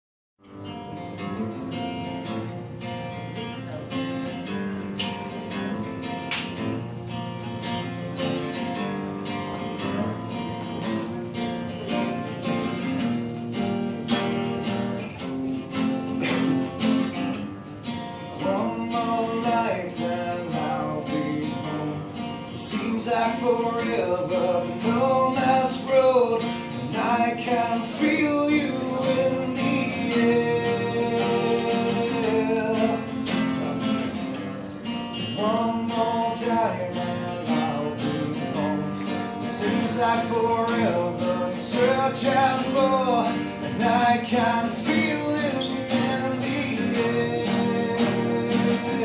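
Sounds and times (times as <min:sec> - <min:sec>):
acoustic guitar strumming: 0:00.4 - 0:49.0.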